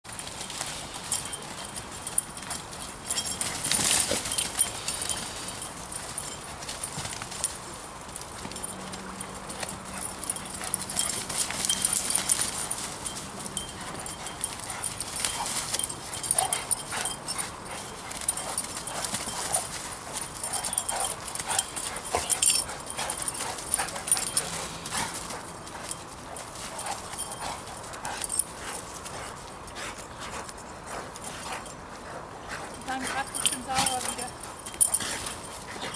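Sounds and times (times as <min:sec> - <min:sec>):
dogs running through dry leaves: 0:00.1 - 0:35.9.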